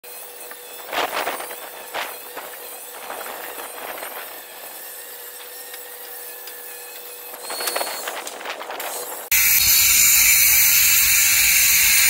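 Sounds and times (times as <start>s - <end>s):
angle grinder cutting concrete: 0.1s - 8.0s, 8.8s - 12.0s.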